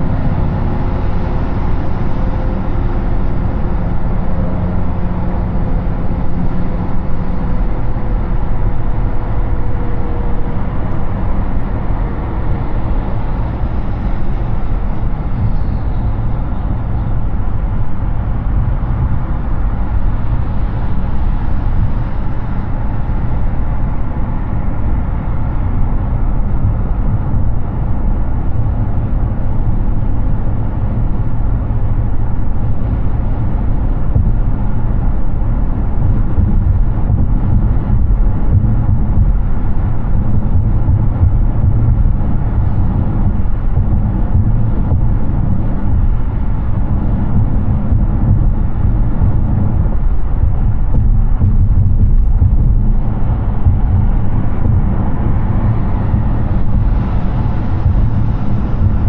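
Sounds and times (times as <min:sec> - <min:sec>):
car tyre and wind noise: 0:00.0 - 0:59.0
faint hum: 0:00.0 - 0:59.0.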